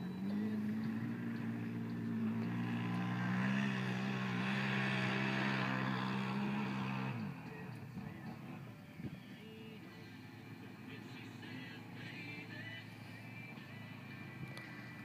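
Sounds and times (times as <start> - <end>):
quad engine running under load: 0.0 - 15.0.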